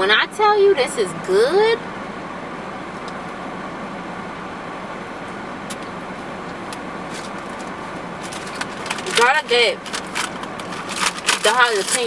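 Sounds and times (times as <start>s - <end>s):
air conditioning hum: 0.0s - 12.0s
car engine hum: 0.0s - 12.0s.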